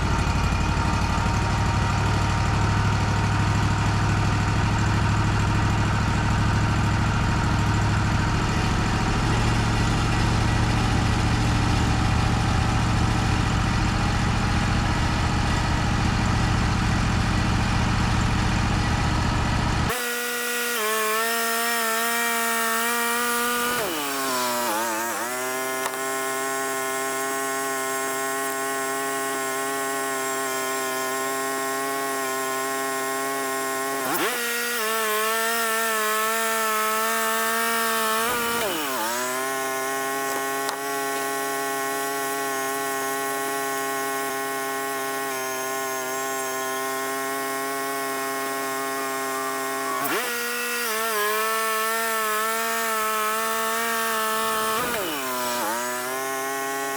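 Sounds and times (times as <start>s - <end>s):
band sawmill engine sawing wood: 0.0s - 56.9s.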